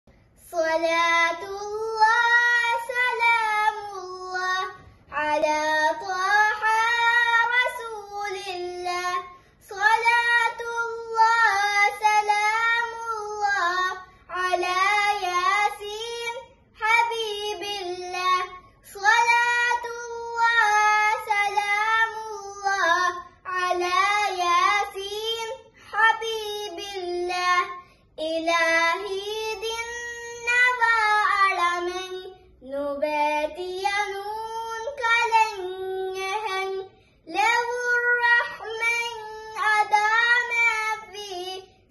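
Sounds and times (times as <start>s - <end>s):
girl singing unaccompanied: 0.2s - 41.9s.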